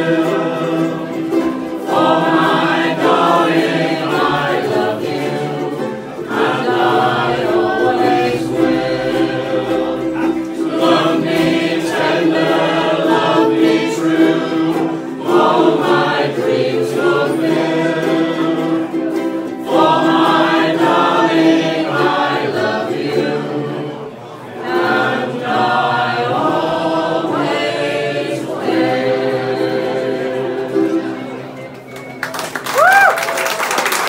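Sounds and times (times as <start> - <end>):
group singing: 0.0 - 31.5
ukuleles strumming: 0.0 - 33.1.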